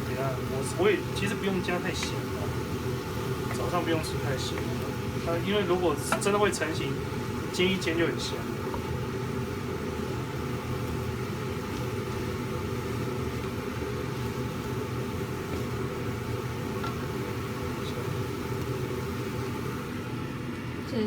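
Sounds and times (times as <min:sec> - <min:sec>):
exhaust fan humming: 0:00.0 - 0:21.0
food stir-frying in a pan: 0:00.0 - 0:21.0.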